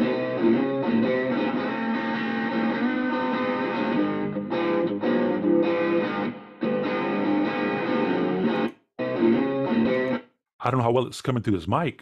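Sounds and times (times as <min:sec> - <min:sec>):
overdriven electric guitar: 0:00.0 - 0:10.3.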